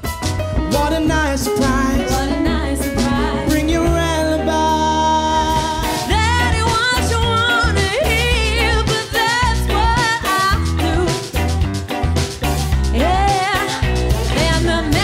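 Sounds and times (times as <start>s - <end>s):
live pop-soul band playing: 0.0s - 15.0s
man and woman singing: 0.7s - 11.5s, 12.9s - 15.0s.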